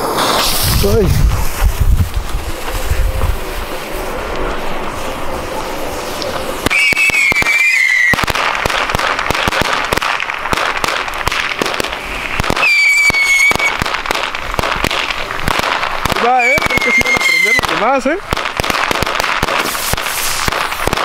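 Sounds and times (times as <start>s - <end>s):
firecracker pops: 0.0s - 2.8s, 6.2s - 21.0s
whistling fireworks: 0.0s - 21.0s.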